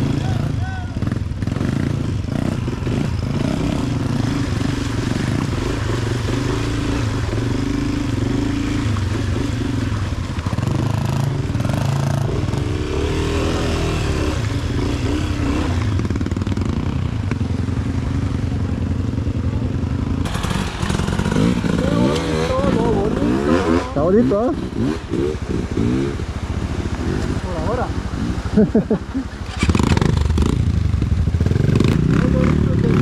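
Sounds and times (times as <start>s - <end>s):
dirt bike engine revving: 0.0s - 18.3s, 20.0s - 33.0s.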